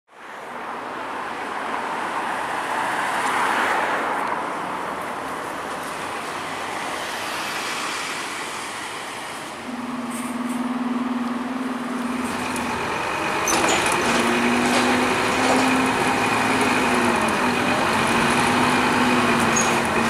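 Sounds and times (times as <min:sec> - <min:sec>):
street traffic noise: 0:00.1 - 0:20.0
bus driving: 0:01.9 - 0:20.0.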